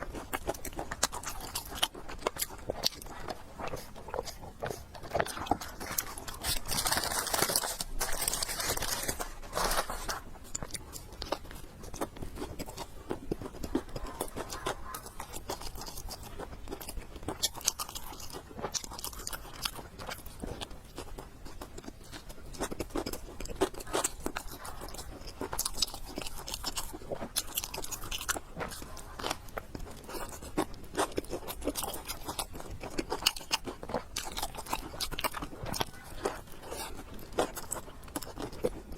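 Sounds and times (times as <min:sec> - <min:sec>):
chewing and biting food: 0:00.0 - 0:38.9.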